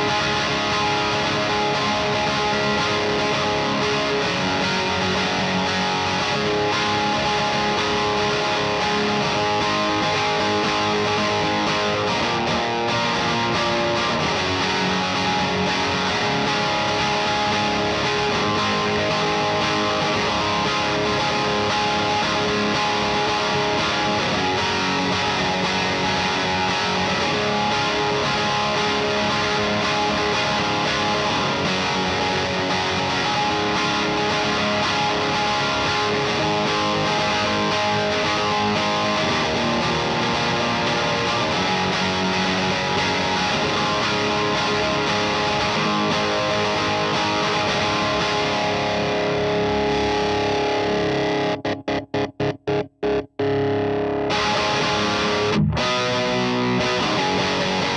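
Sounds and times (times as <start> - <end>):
overdriven electric guitar: 0.0 - 57.9.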